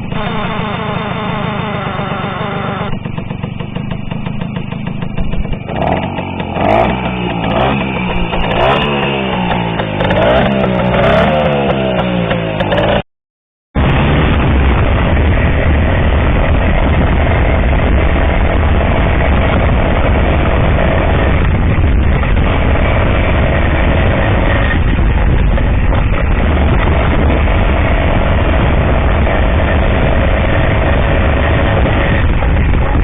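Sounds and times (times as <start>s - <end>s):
two-stroke motorcycle engine running: 0.0s - 13.0s, 13.8s - 33.0s.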